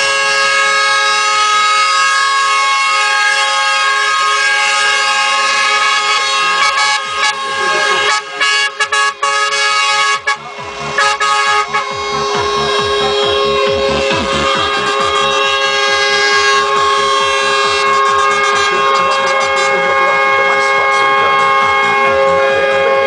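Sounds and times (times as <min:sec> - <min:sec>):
truck air horns blowing: 0:00.0 - 0:23.0.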